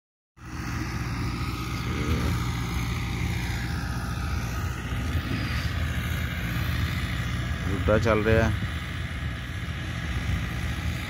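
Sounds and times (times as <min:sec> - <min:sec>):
tractor diesel engine running: 0:00.4 - 0:11.0.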